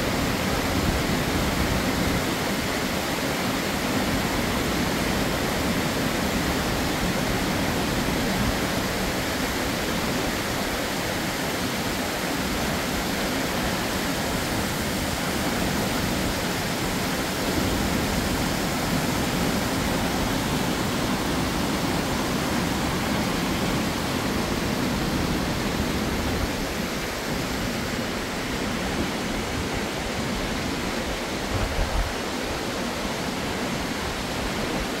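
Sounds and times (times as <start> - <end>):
waterfall rushing over rocks: 0.0 - 35.0.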